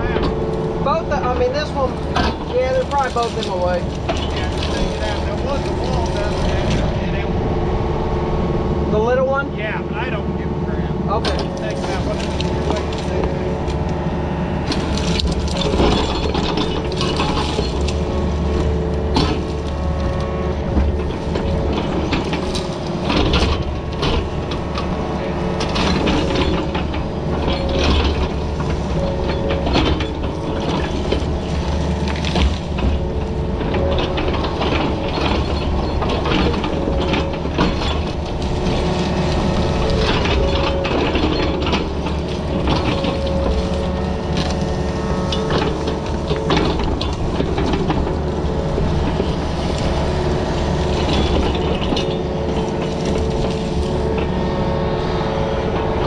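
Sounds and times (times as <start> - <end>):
bucket clanking on rock: 0.0 - 6.9, 11.1 - 54.9
diesel engine running: 0.0 - 56.0
hydraulic whine: 0.0 - 56.0.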